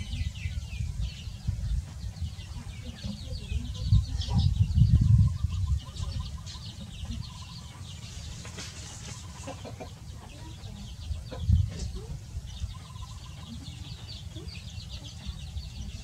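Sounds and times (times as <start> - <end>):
chicks peeping: 0.0 - 16.0
hen clucking: 1.4 - 16.0.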